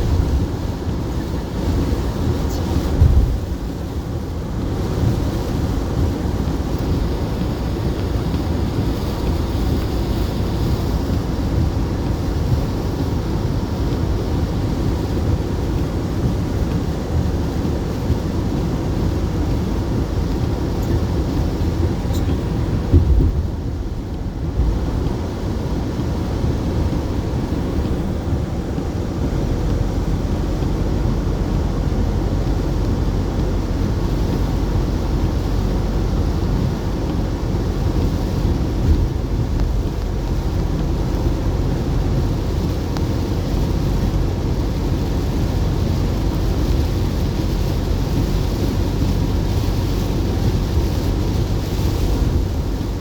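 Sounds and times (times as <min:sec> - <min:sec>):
steady low rumble: 0:00.0 - 0:53.0
wind noise on microphone: 0:00.0 - 0:53.0.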